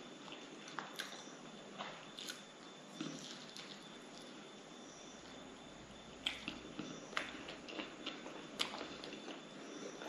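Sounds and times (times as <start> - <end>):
man chewing: 0.0 - 4.4, 6.2 - 10.0.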